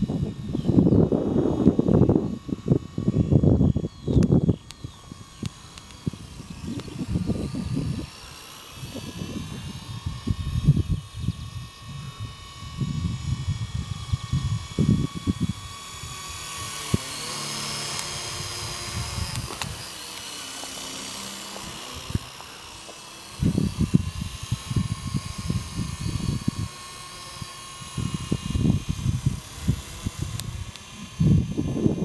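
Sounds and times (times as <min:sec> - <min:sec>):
wind buffeting microphone: 0:00.0 - 0:20.0, 0:21.6 - 0:32.0
rc helicopter rotor whine: 0:00.0 - 0:32.0.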